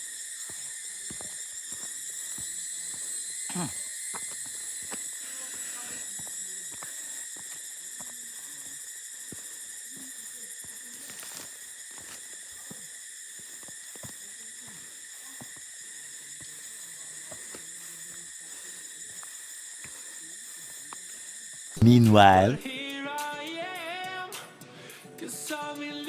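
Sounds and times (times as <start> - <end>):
insect chorus shrill drone: 0.0 - 21.8.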